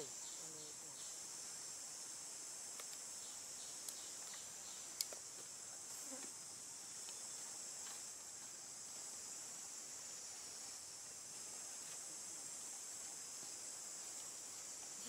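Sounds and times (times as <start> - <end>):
insect chorus droning: 0.0 - 15.0.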